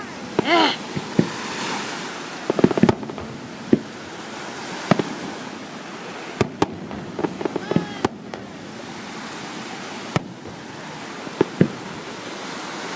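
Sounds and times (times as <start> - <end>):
fireworks bangs: 0.0 - 12.9
fireworks hissing crackle: 0.0 - 12.9.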